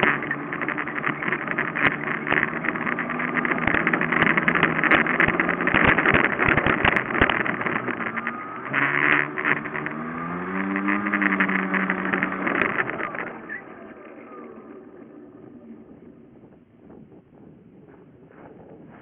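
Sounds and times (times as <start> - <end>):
dense rattle: 0.0 - 16.7
small vehicle engine running: 0.0 - 19.0.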